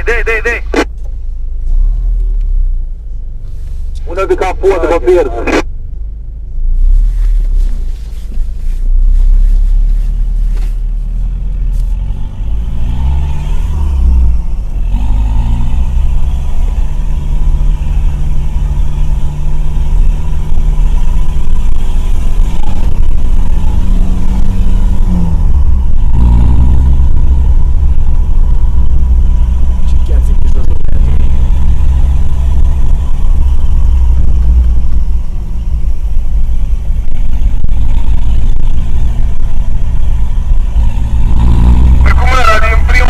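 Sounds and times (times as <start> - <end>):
off-road vehicle engine revving: 0.0 - 5.7, 8.7 - 43.0.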